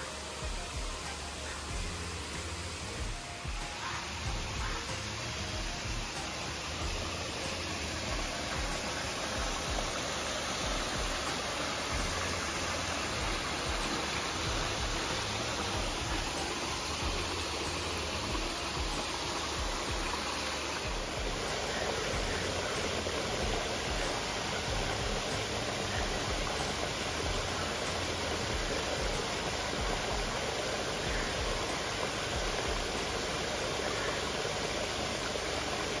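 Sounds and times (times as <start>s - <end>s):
waterfalls splashing over rocks: 0.0s - 36.0s.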